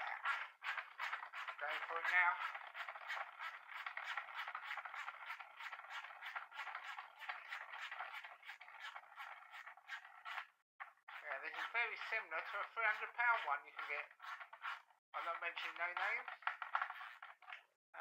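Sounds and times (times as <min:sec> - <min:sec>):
scratchy scraping: 0:00.0 - 0:17.6.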